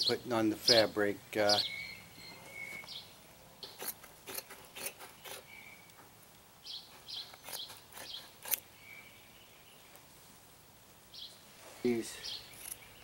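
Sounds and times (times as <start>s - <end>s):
birds chirping: 0.0s - 10.2s, 11.0s - 13.0s.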